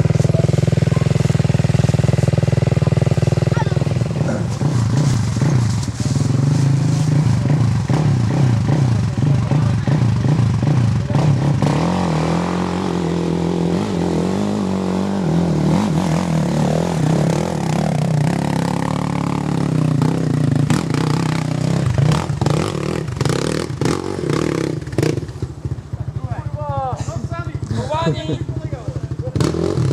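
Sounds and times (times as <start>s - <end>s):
quad engine running: 0.0s - 29.9s.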